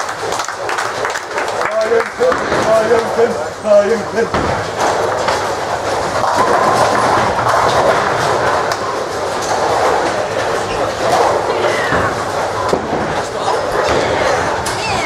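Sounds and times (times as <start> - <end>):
bowling balls rolling: 0.0 - 15.0
bowling pins clattering: 2.1 - 15.0.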